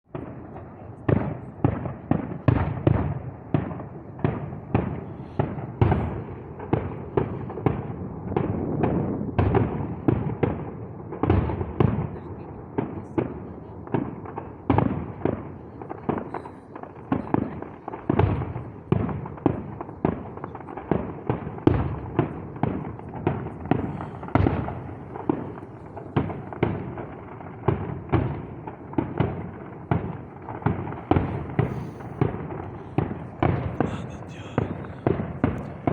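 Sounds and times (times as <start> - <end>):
fireworks banging: 0.1 - 35.9.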